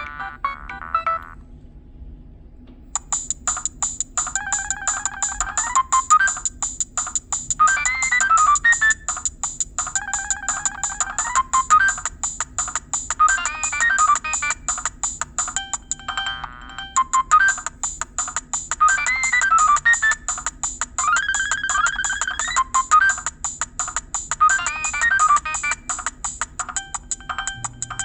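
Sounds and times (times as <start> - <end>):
ticking beat under melody: 0.0 - 1.3, 3.0 - 28.0
phone ringtone melody: 0.0 - 1.4, 3.0 - 28.0.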